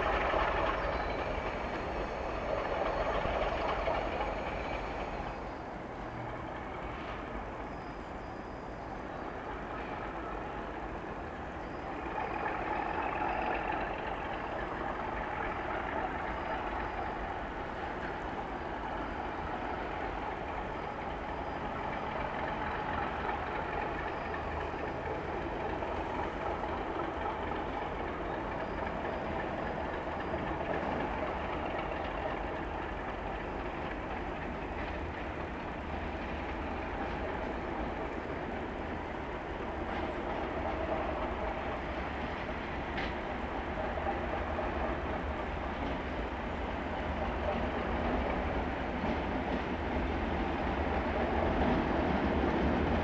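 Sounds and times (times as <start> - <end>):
diesel locomotive engine running: 0.0 - 53.0.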